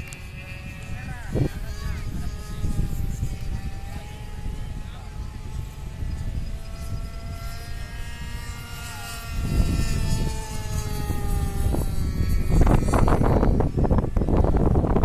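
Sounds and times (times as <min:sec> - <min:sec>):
model airplane engine buzzing: 0:00.0 - 0:15.0
wind rumbling on microphone: 0:00.0 - 0:15.0.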